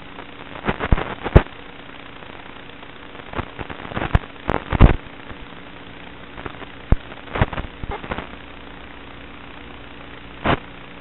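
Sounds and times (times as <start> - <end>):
crackles and pops: 0.0 - 11.0
static hiss: 0.0 - 11.0.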